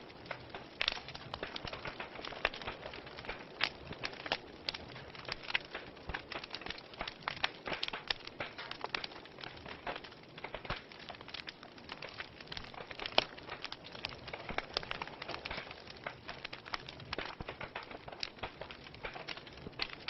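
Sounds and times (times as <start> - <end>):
faint steady hiss: 0.0 - 20.0
wood fire crackling and popping: 0.0 - 20.0.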